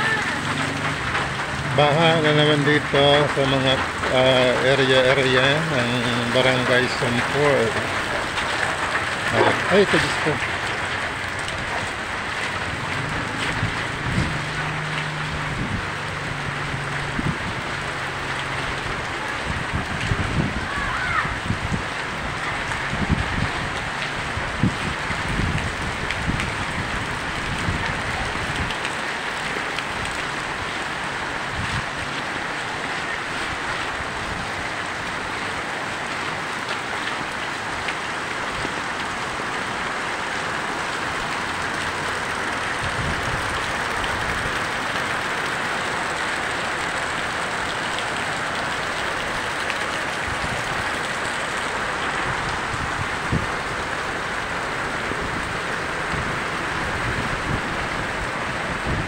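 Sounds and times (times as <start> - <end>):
heavy rain on flooded street: 0.0 - 59.0.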